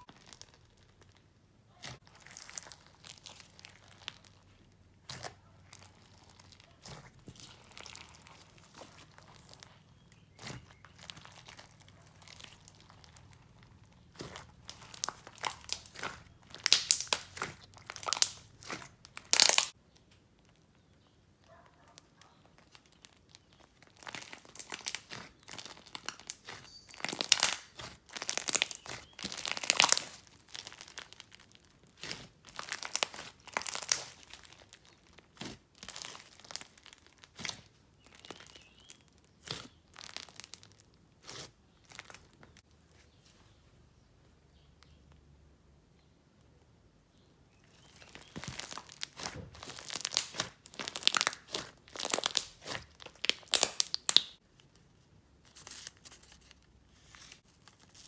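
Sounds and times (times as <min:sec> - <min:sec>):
slime crackling and popping: 0:00.0 - 0:21.1, 0:22.2 - 0:42.7, 0:47.7 - 0:54.4.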